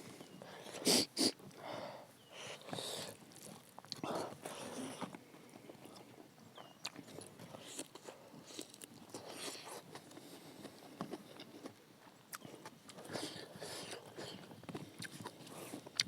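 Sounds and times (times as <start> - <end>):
person chewing food: 2.3 - 6.1, 6.8 - 16.0.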